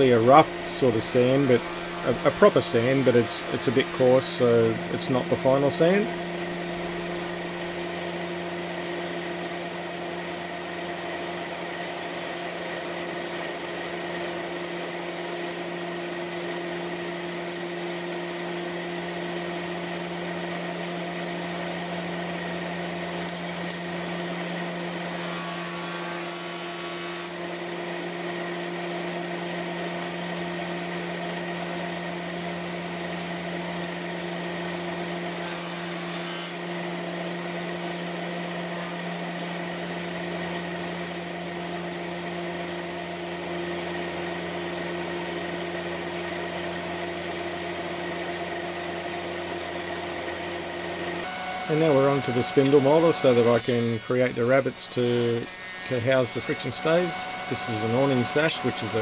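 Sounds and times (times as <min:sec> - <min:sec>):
belt sander humming: 0:00.0 - 0:16.3, 0:16.9 - 0:59.0.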